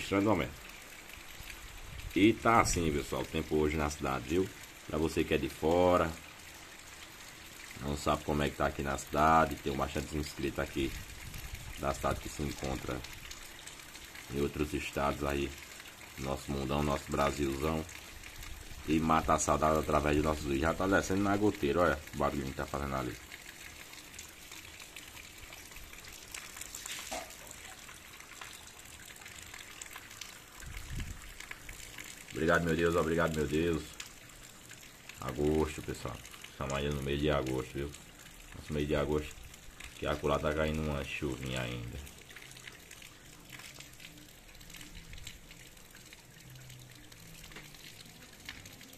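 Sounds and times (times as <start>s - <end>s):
light rain: 0.0s - 48.9s
water dripping off roof: 0.0s - 48.9s.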